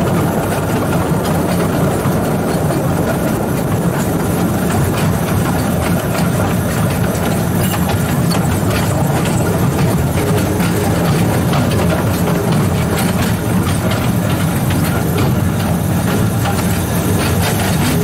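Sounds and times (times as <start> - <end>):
electric railway vehicle droning: 0.0 - 18.0
wheels clicking on rails: 0.0 - 18.0.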